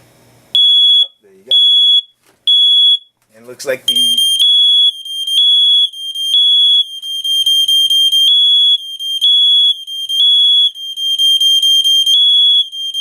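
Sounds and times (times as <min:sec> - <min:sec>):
smoke alarm beeping: 0:00.6 - 0:03.1, 0:03.9 - 0:13.0.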